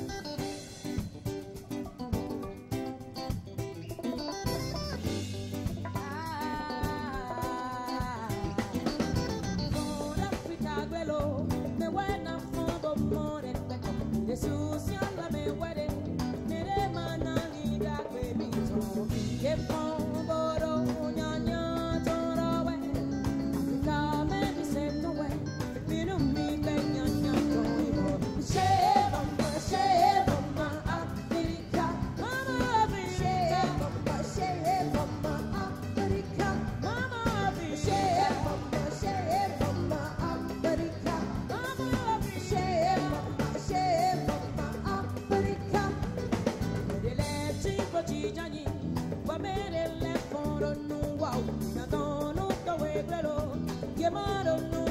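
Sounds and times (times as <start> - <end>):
live band with drum kit: 0.0 - 54.9
woman singing into microphone: 5.6 - 54.9.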